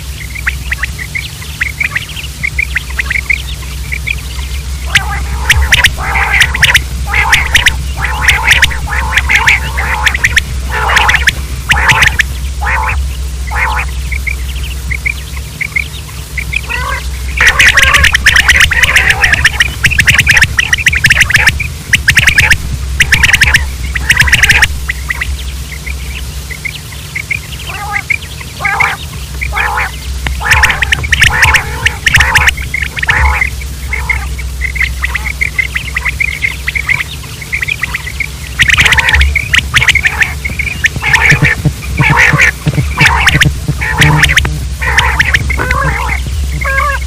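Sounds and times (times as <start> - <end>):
quails calling: 0.0 - 47.0
steady low hum: 0.0 - 47.0.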